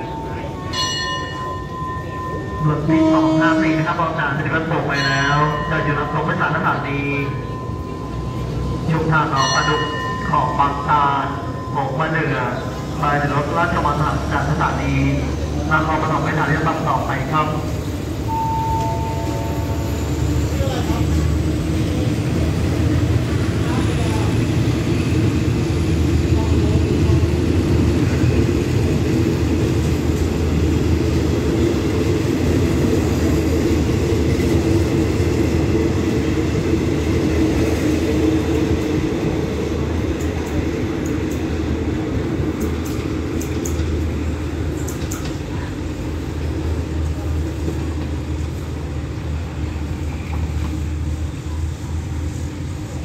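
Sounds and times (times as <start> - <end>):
train rumbling along rails: 0.0 - 53.0.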